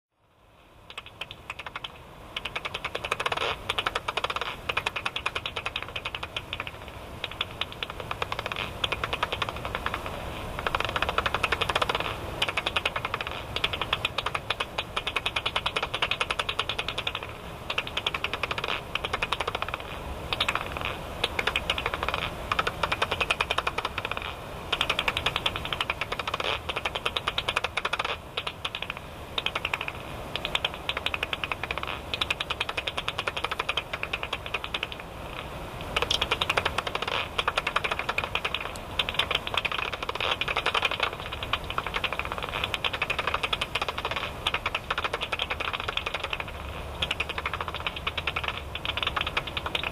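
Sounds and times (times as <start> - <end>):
bat echolocation clicks: 0.8 - 49.9.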